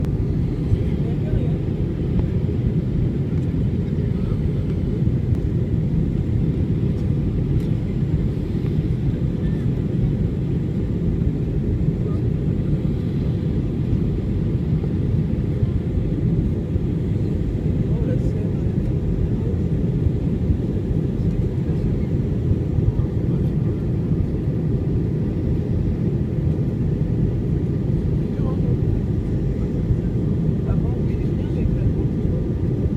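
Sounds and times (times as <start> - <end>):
airliner cabin engine rumble: 0.0 - 32.9.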